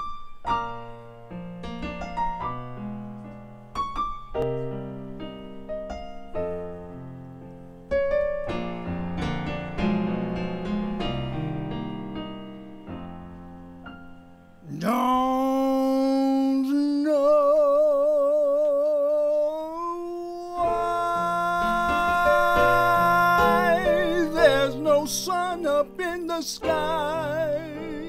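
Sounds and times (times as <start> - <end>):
solo piano playing: 0.0 - 28.0.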